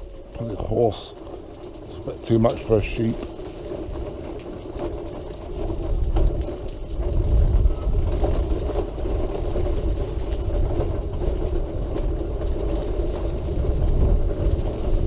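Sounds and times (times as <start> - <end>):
wheelchair motor whine: 0.0 - 15.0
wheels rumbling on path: 0.0 - 15.0.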